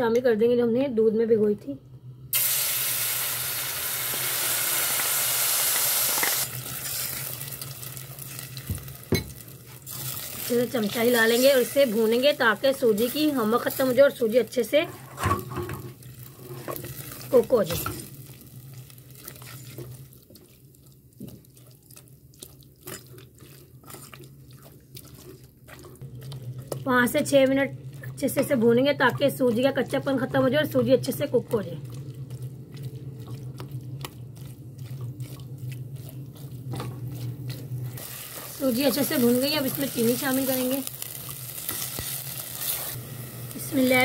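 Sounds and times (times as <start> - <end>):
batter sizzling in hot oil: 2.3 - 14.9, 16.0 - 44.0
low steady hum: 6.4 - 44.0.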